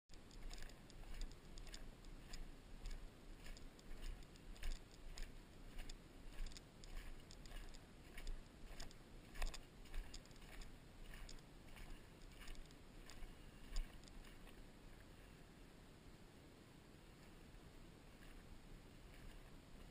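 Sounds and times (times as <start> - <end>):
footsteps crunching on stubble: 0.1 - 14.7, 18.1 - 19.9
low steady rumble: 0.1 - 19.9.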